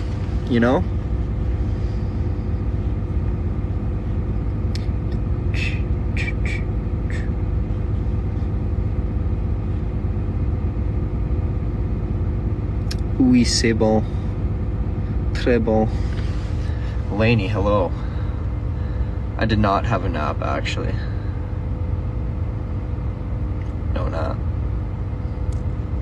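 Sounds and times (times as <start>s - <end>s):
truck cabin engine rumble: 0.0s - 26.0s.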